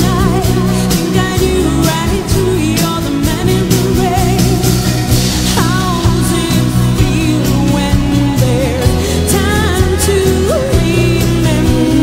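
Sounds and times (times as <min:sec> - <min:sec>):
drum beat: 0:00.0 - 0:12.0
electric guitar: 0:00.0 - 0:12.0
keyboards: 0:00.0 - 0:12.0
person singing with vibrato: 0:00.0 - 0:12.0.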